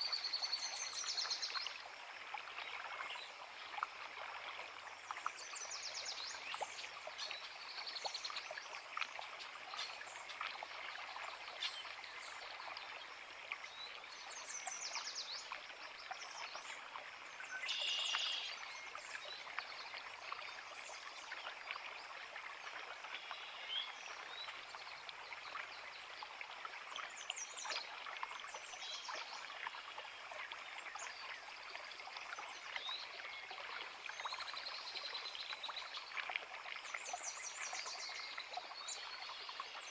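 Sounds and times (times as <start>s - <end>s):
creek running over rocks: 0.0s - 39.9s.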